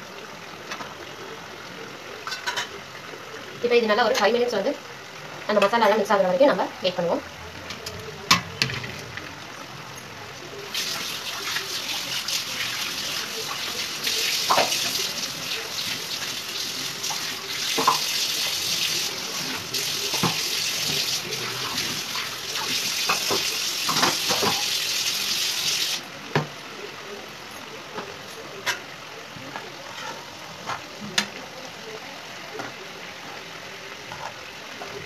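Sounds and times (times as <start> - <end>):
gravy simmering in a pan: 0.0 - 35.0.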